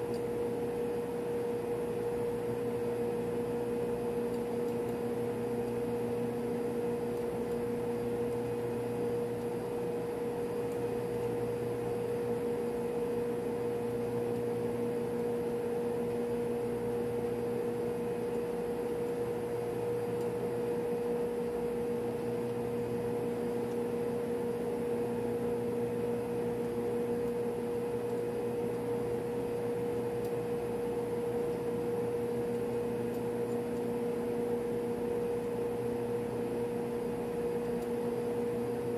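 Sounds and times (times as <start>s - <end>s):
refrigeration machinery humming: 0.0s - 38.9s.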